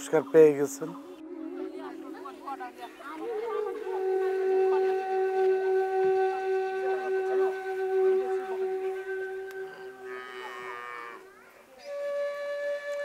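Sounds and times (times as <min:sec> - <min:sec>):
flute holding a long note: 0:01.0 - 0:13.0.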